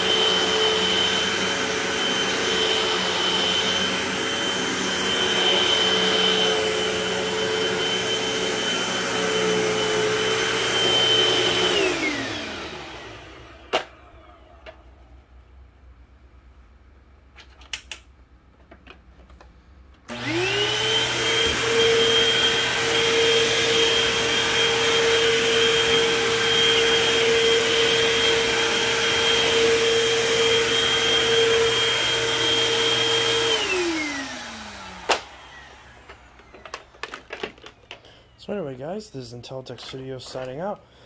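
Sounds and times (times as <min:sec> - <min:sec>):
vacuum cleaner motor whine: 0:00.0 - 0:15.4, 0:20.1 - 0:39.0.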